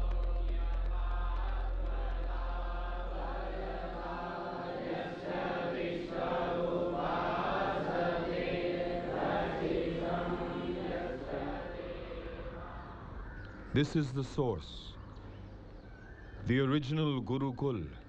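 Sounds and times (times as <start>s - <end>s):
low steady drone: 0.0s - 18.0s
voices chanting: 0.0s - 18.0s.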